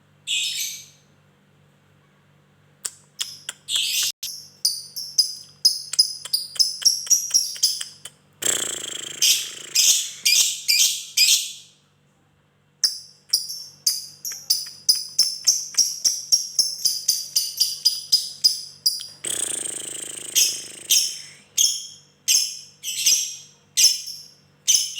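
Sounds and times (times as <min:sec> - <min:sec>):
faint steady hum: 0:00.0 - 0:24.9
lovebird chirping chatter: 0:03.2 - 0:11.6, 0:12.8 - 0:24.9.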